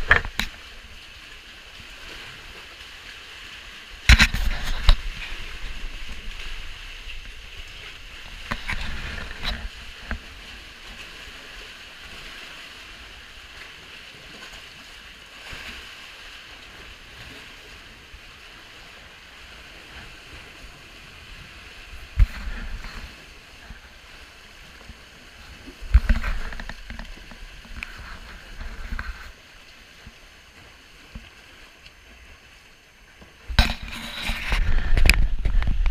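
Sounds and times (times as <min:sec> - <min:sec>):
paddle splash and knock: 0:00.0 - 0:35.9
water lapping around kayak: 0:00.0 - 0:35.9.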